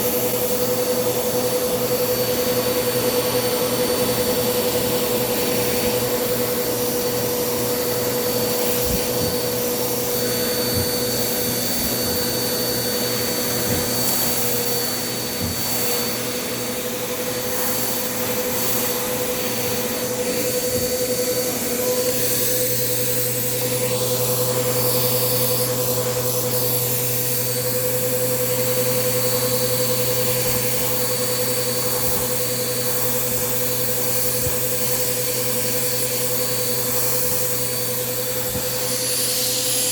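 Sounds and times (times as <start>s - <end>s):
vacuum motor whine: 0.0s - 39.9s.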